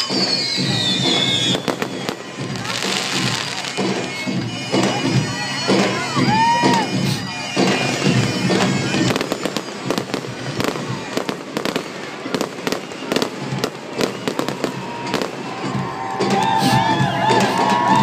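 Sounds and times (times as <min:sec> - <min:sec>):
bagpipe music: 0:00.0 - 0:18.0
fireworks bangs and crackles: 0:00.0 - 0:18.0.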